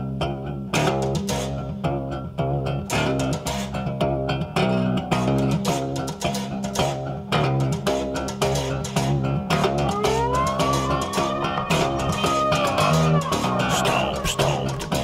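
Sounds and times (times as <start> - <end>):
plucked guitar music with bass: 0.0 - 15.0.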